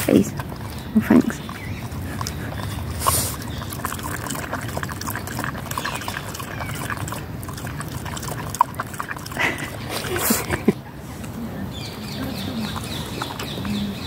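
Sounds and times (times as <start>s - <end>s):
dog lapping water: 0.0s - 11.0s, 11.7s - 14.0s.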